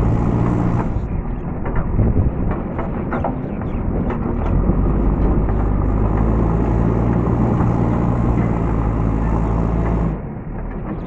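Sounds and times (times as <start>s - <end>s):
diesel engine drone under load: 0.0s - 11.0s.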